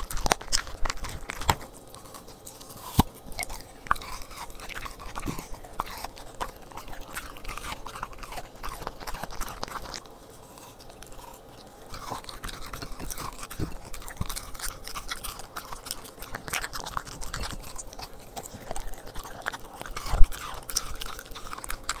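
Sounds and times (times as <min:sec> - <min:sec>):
dog chewing treats: 0:00.0 - 0:22.0.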